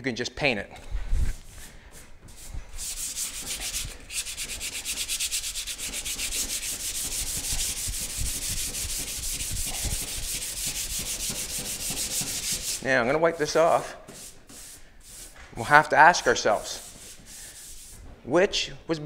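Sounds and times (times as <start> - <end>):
sandpaper sanding: 1.3 - 15.4, 16.2 - 18.0.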